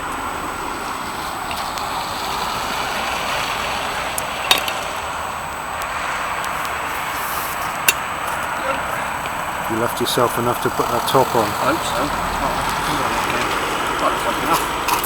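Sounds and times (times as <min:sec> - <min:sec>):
road traffic hiss: 0:00.0 - 0:15.0.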